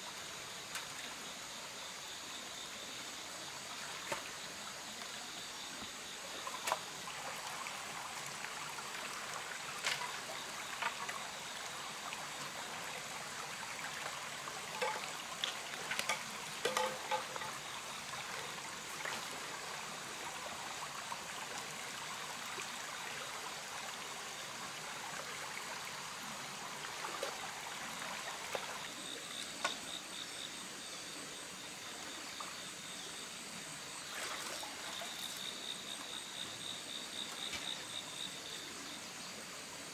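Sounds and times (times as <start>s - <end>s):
insects chirping: 0.0s - 39.9s
stream trickling over stones: 0.1s - 2.1s, 2.9s - 30.7s, 31.6s - 38.8s.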